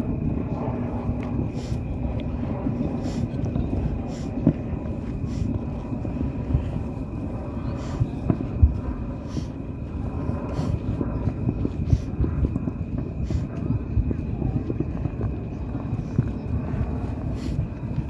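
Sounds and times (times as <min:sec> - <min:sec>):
distant fireworks booming and crackling: 0:00.0 - 0:18.0.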